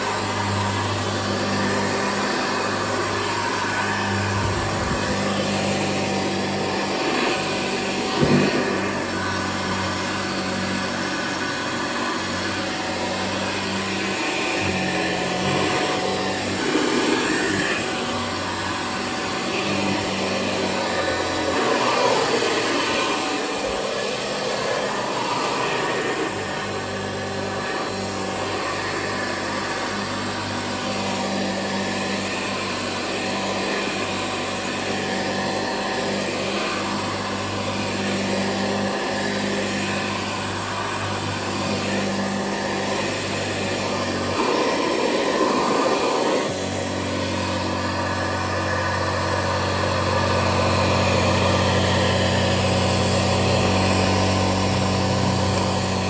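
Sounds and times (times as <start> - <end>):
upright vacuum cleaner running: 0.0 - 56.0.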